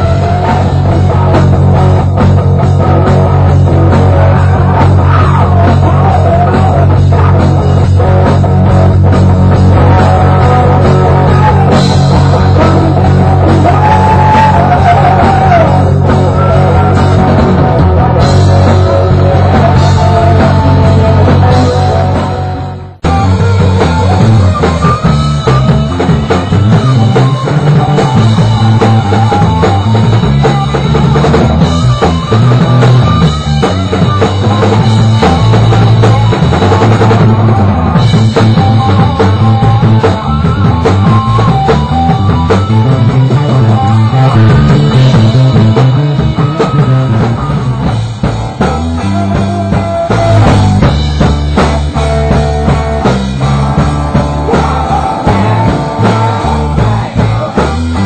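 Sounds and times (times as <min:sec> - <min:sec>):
drum kit: 0:00.0 - 0:58.0
electric guitar: 0:00.0 - 0:58.0
rock band playing live: 0:00.0 - 0:58.0.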